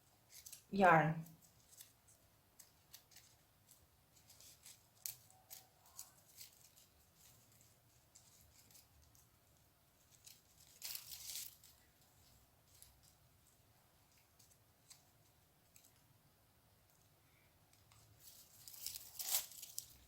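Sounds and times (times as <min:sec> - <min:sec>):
paper yarn crackling and rustling: 0:00.0 - 0:20.0.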